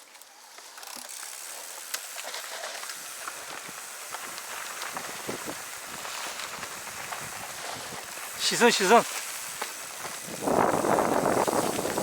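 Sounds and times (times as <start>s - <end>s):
bike clicks and rattles: 0.0s - 12.0s
bike tyres on dirt and gravel: 0.0s - 12.0s.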